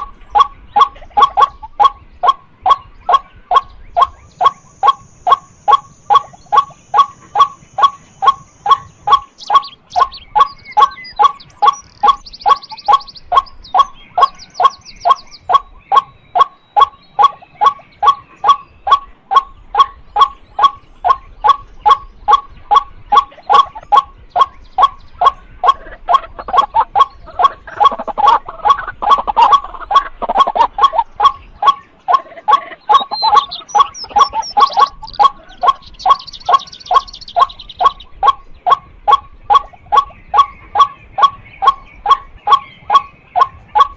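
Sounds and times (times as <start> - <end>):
waterhen calling kwak: 0.0 - 43.9.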